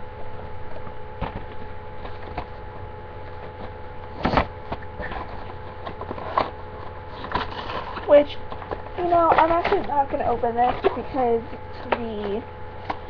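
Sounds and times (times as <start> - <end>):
electrical hum: 0.0 - 13.0
box rustling and tapping: 0.8 - 13.0.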